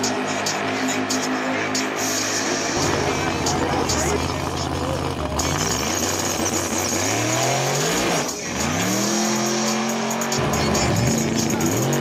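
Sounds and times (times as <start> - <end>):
race car accelerating: 0.0 - 12.0.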